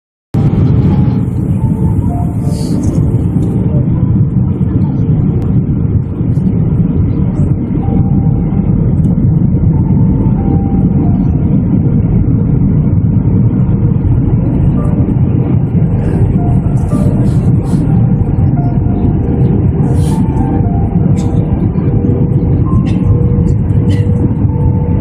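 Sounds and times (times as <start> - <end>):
jet airliner cabin noise: 0.4 - 25.0.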